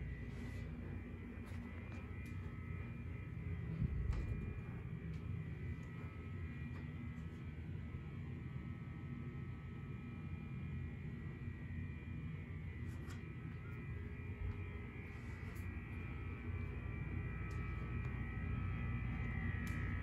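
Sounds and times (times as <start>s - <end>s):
low room hum and rumble: 0.0s - 20.0s.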